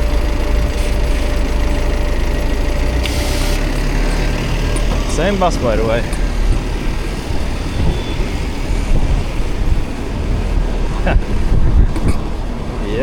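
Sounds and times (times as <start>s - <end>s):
e-bike riding noise: 0.0s - 13.0s
road traffic rumble: 0.0s - 13.0s.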